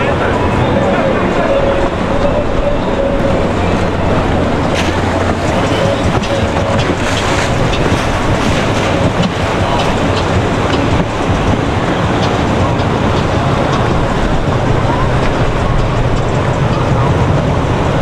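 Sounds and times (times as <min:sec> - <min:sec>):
boat motor running: 0:00.0 - 0:18.0
water noise: 0:00.0 - 0:18.0
wind buffeting microphone: 0:00.0 - 0:18.0.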